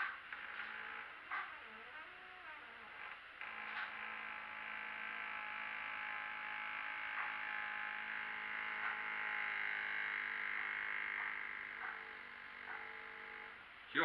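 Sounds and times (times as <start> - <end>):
door hinge creaking: 0.0 - 13.6.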